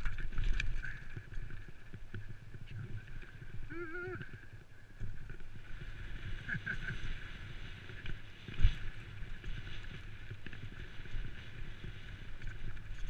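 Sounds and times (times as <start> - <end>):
bike rattling: 0.0 - 13.0.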